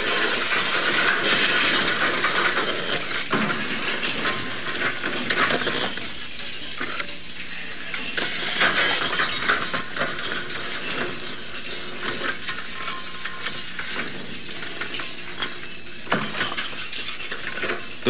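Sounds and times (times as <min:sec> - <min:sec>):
chairlift clattering metal: 0:00.0 - 0:18.0.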